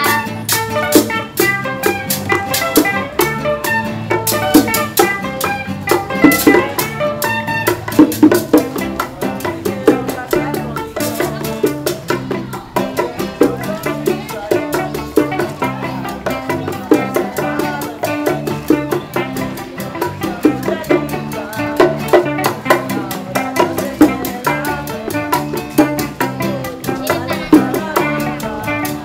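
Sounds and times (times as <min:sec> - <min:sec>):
bass: 0:00.0 - 0:29.0
bongos: 0:00.0 - 0:29.0
picked guitar melody: 0:00.0 - 0:29.0
scraping guira: 0:00.0 - 0:29.0.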